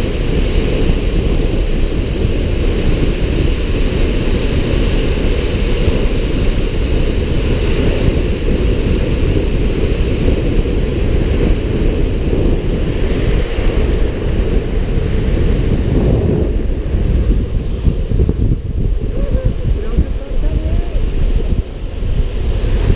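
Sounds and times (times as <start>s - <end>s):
longboard wheels rolling on asphalt: 0.0s - 22.9s
wind buffeting microphone: 0.0s - 22.9s.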